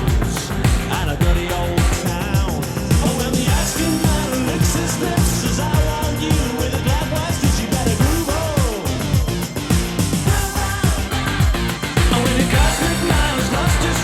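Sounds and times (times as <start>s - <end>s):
rock-pop song through earphone: 0.0s - 14.0s.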